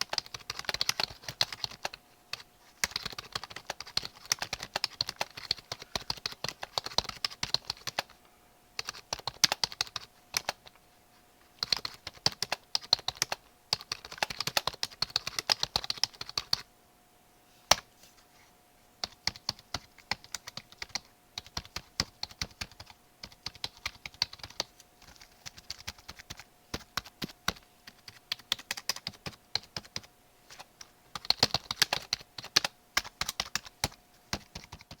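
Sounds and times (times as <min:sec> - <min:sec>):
keyboard typing: 0:00.0 - 0:08.2, 0:08.8 - 0:10.8, 0:11.6 - 0:16.7, 0:19.0 - 0:35.0
faint steady hum: 0:00.0 - 0:35.0.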